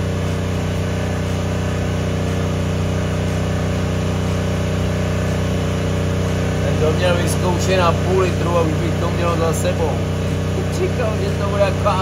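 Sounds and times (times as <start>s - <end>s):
petrol generator running: 0.0s - 12.0s.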